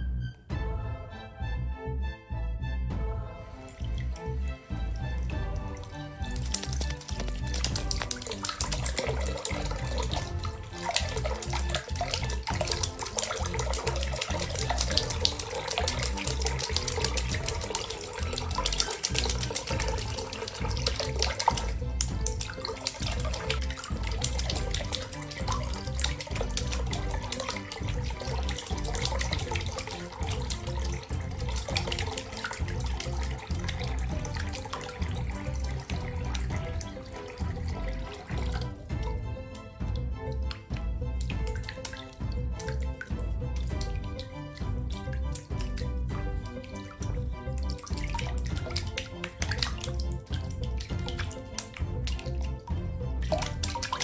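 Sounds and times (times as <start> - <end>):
background music: 0.0 - 54.0
bird splashing and beating wings: 3.4 - 54.0
tap water running: 3.4 - 54.0.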